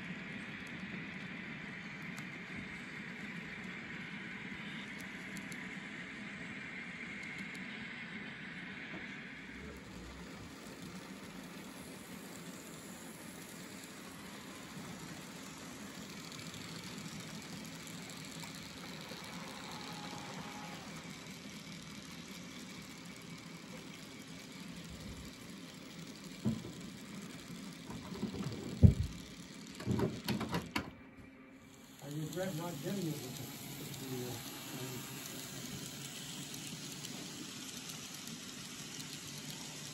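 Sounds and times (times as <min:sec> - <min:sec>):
model train humming on track: 0:00.0 - 0:39.9.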